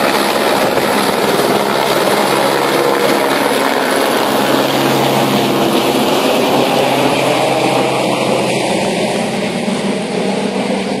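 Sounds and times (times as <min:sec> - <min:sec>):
helicopter drone: 0:00.0 - 0:11.0.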